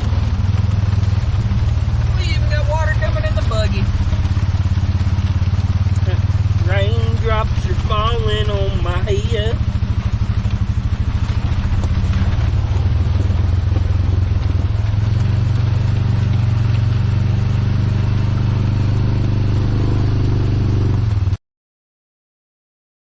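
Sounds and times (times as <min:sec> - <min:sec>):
vehicle engine running: 0:00.0 - 0:21.4.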